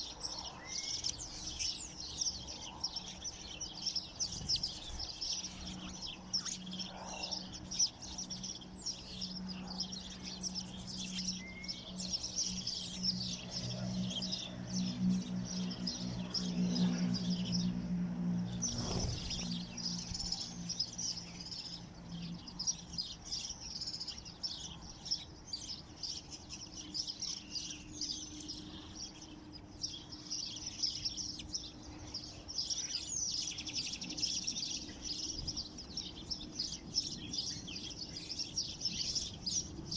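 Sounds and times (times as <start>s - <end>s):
low steady hum: 0.0s - 39.9s
songbirds chirping and twittering: 0.0s - 39.9s.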